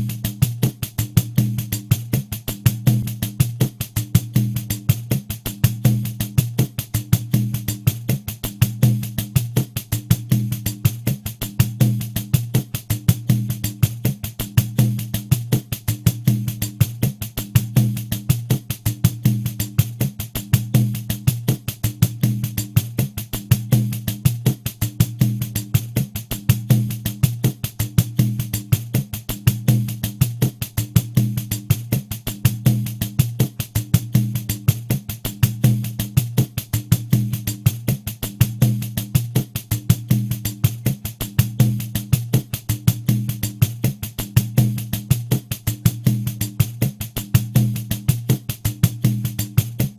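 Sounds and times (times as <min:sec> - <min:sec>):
pandeiro playing samba groove: 0:00.0 - 0:49.9.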